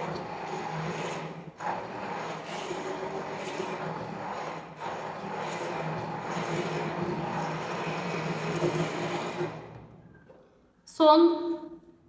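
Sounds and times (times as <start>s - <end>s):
stick blender humming: 0.0s - 10.1s.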